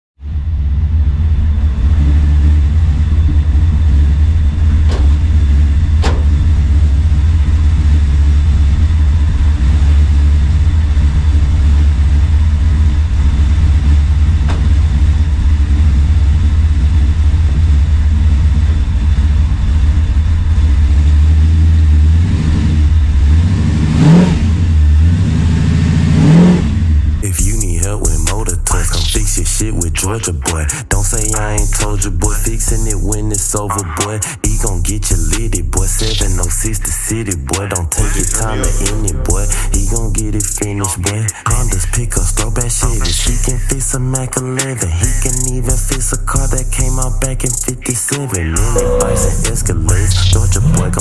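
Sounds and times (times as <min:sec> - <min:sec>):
pickup engine idling and revving: 0:00.2 - 0:51.0.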